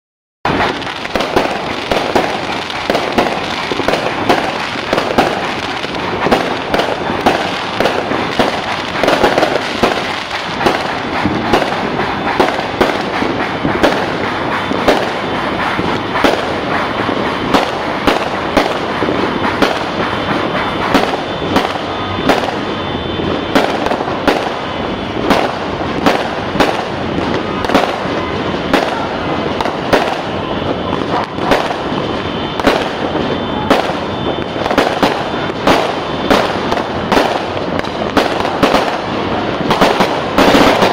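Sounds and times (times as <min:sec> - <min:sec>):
fireworks bangs: 0:00.4 - 0:40.9
fireworks crackling: 0:00.4 - 0:40.9.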